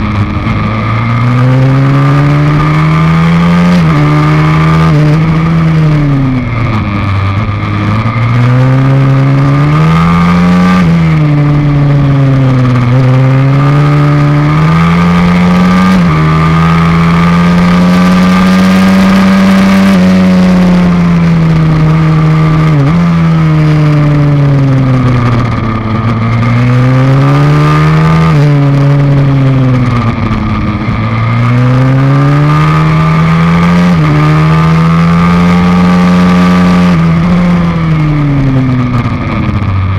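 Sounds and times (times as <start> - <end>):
pit bike engine revving: 0.0 - 39.8.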